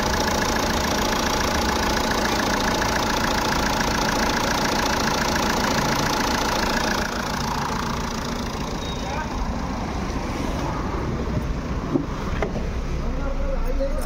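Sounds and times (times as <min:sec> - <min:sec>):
diesel engine idling with ticking: 0:00.0 - 0:14.0.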